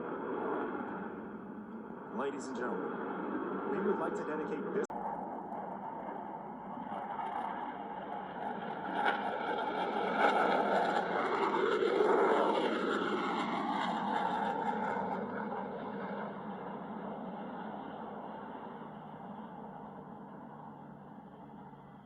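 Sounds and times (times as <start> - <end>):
jet passing by: 0.0 - 22.0.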